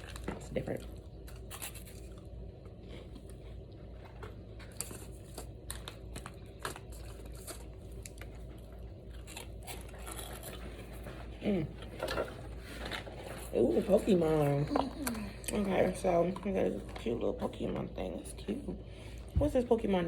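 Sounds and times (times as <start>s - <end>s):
chewing crunchy snacks: 0.0s - 17.6s
snack wrappers crinkling: 0.0s - 17.9s
low room hum: 0.0s - 20.0s.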